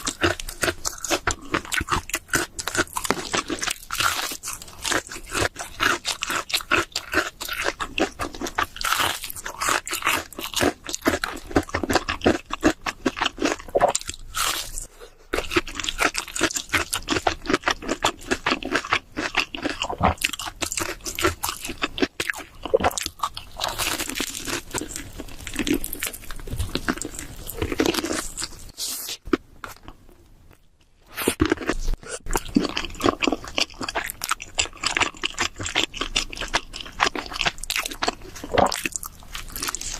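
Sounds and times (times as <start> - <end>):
pizza crunching and chewing: 0.0 - 39.9.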